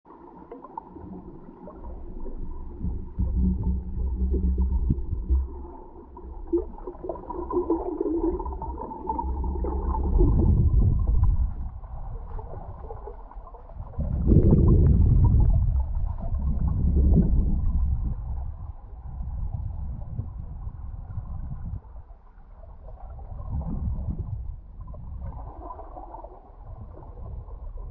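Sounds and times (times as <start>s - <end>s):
muffled underwater rushing rumble: 0.1s - 27.9s.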